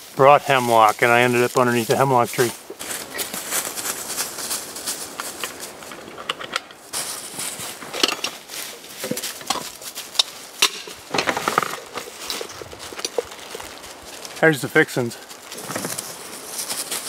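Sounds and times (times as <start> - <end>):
dry leaves crunching: 0.0 - 17.0.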